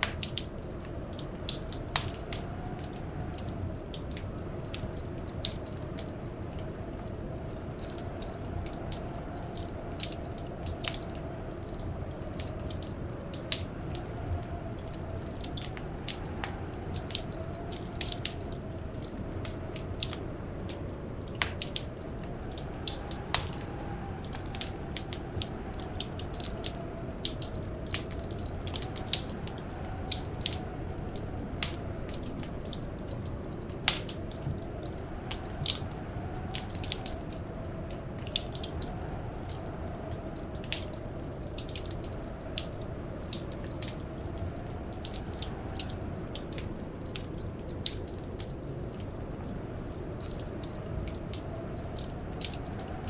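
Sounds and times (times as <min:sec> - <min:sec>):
howling wind: 0:00.0 - 0:53.0
wood fire crackling: 0:00.0 - 0:53.0.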